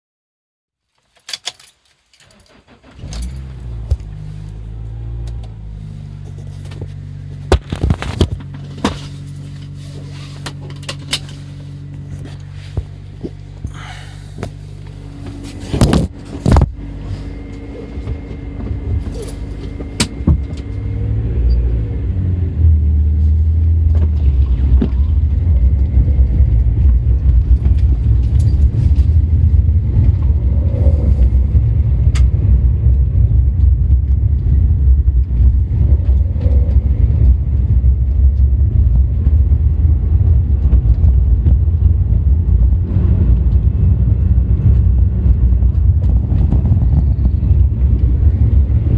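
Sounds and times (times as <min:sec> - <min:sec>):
car engine droning: 0:02.3 - 0:48.9.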